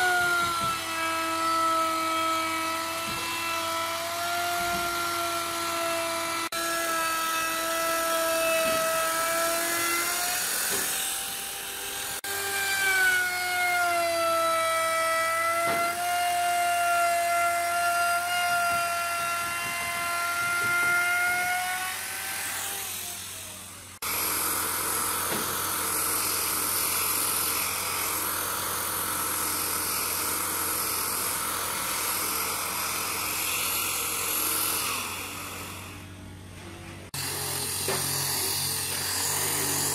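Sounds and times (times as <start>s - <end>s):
belt sander on wood: 0.0s - 36.2s, 37.1s - 39.9s
electric router whining: 0.0s - 39.9s.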